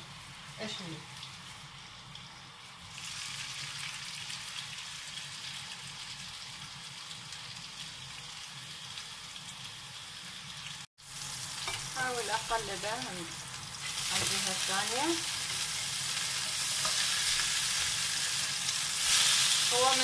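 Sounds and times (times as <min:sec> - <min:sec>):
patties sizzling in frying pan: 0:00.0 - 0:20.0.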